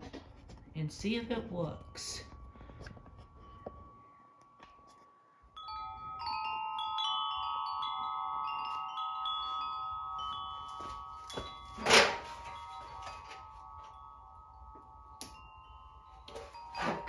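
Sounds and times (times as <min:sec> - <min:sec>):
wind chimes ringing: 0:01.0 - 0:17.0.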